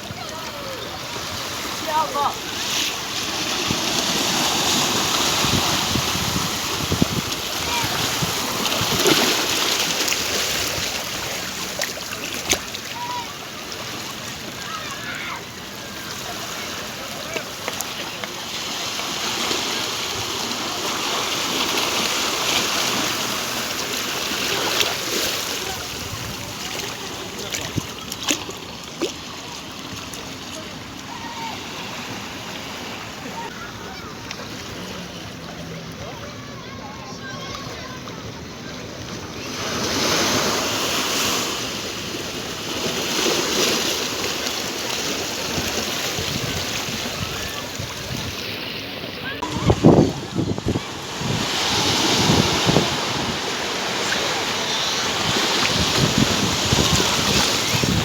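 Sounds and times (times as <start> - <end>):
sea surf rushing: 0.0 - 58.0.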